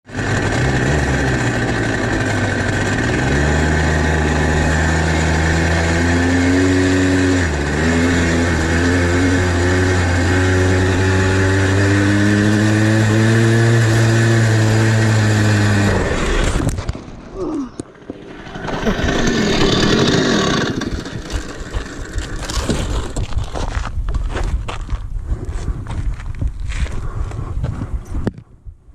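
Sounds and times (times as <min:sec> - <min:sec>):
dirt bike engine running: 0:00.0 - 0:28.2.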